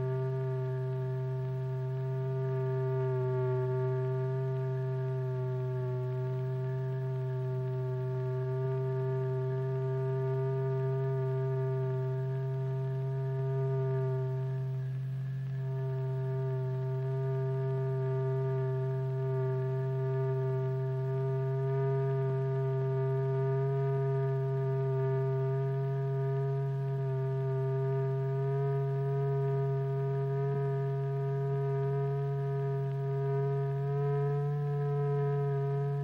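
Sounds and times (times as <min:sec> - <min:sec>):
steady electronic tone: 0:00.0 - 0:36.0.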